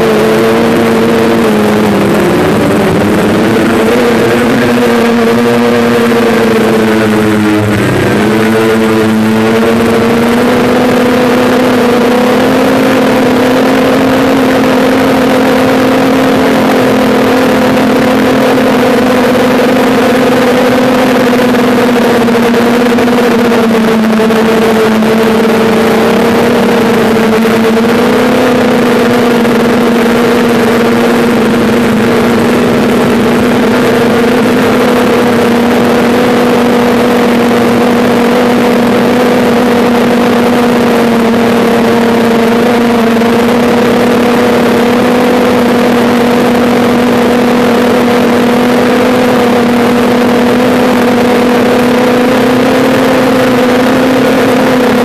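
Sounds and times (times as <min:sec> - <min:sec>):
drone propellers whirring: 0:00.0 - 0:55.0.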